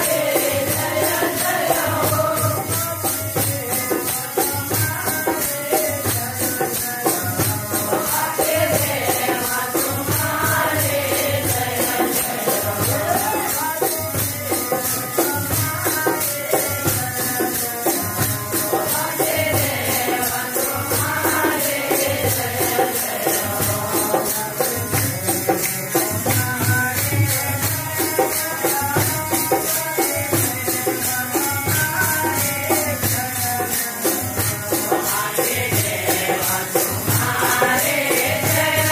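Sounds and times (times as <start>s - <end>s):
drum beat: 0.0s - 38.9s
jingling hand percussion: 0.0s - 38.9s
voices singing: 0.0s - 38.9s.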